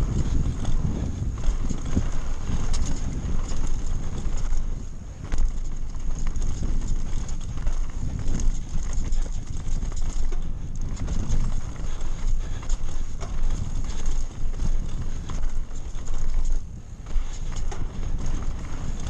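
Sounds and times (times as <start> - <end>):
bike clattering over rocks: 0.0 - 19.0
bike tyres rumbling on dirt: 0.0 - 19.0.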